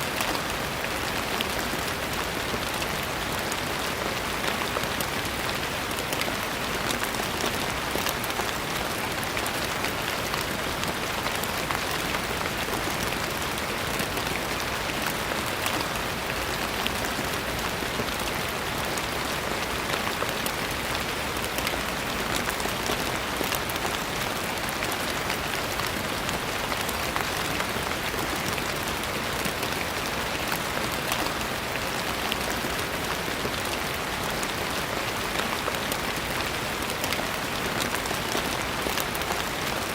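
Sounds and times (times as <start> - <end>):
steady gentle rain: 0.0 - 39.9.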